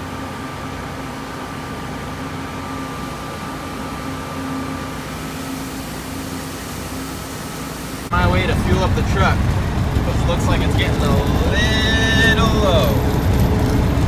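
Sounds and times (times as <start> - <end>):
faint high whine: 0.0 - 14.0
mechanical hum: 0.0 - 14.0.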